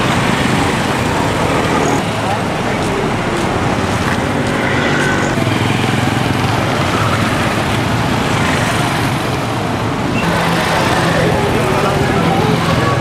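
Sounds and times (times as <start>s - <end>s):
motorcycle engines humming: 0.0s - 13.0s
road noise: 0.0s - 13.0s.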